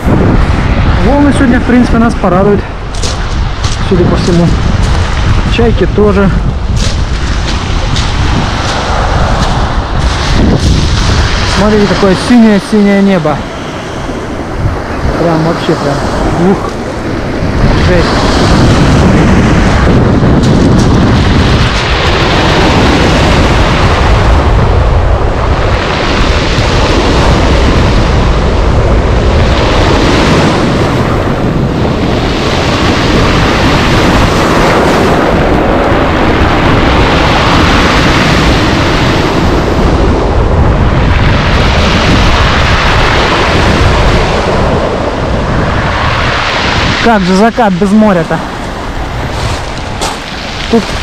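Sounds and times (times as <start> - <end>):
surf breaking on pebble beach: 0.0 - 51.0
wind buffeting microphone: 0.0 - 51.0.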